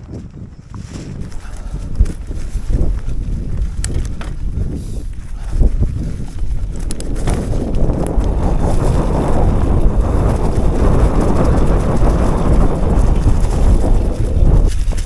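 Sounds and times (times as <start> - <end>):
bike tyres rolling on leaves and dirt: 0.0 - 15.0
wind buffeting microphone: 0.0 - 15.0.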